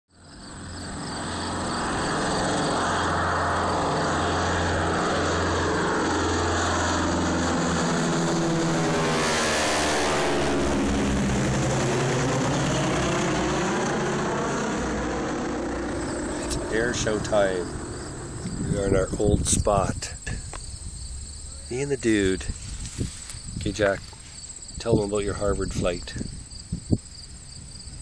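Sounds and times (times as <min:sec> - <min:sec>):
aircraft roaring overhead: 0:00.1 - 0:28.0.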